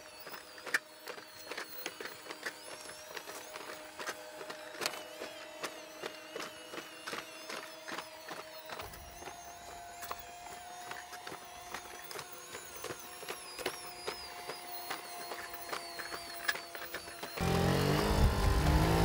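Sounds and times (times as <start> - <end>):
robot hydraulic whine: 0.0 - 19.0.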